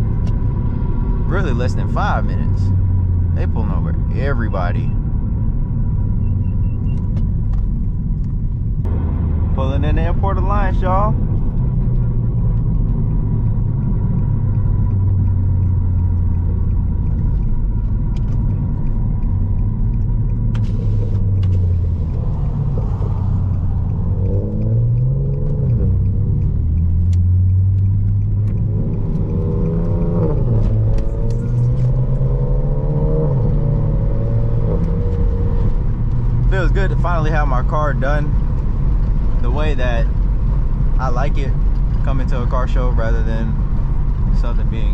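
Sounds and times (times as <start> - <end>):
car engine and exhaust droning: 0.0 - 44.9.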